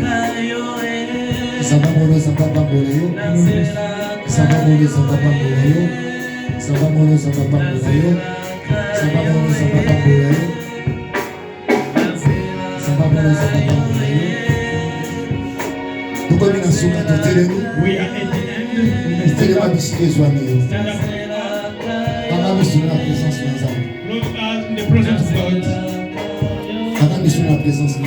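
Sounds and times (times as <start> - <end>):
gospel singing with accompaniment: 0.0 - 28.0
steady beat: 0.0 - 28.0.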